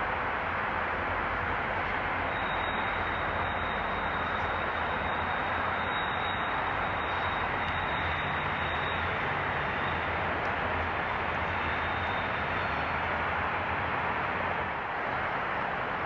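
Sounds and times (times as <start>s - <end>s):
distant trains passing: 0.0s - 16.0s.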